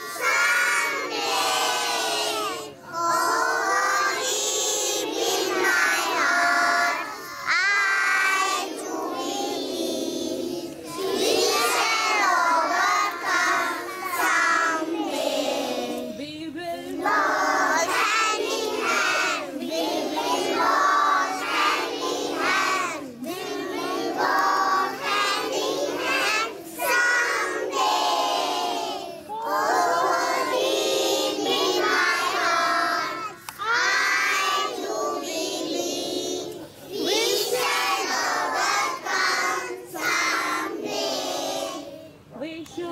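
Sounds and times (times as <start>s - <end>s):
children singing a prayer: 0.0s - 42.8s.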